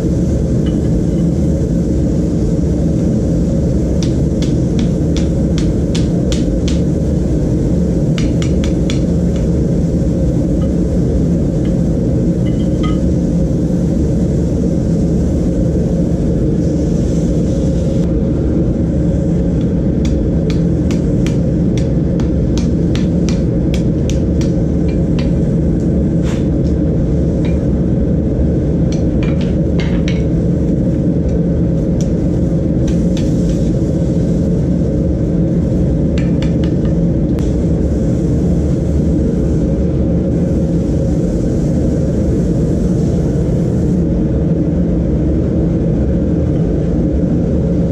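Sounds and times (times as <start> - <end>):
forge burner roaring: 0.0 - 47.9.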